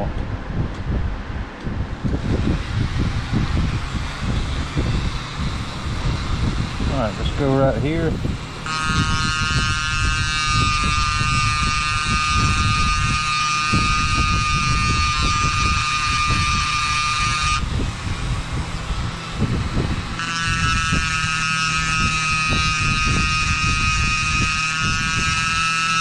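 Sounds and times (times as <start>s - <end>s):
fan low rumble: 0.0s - 26.0s
rotary tool whining: 1.9s - 26.0s.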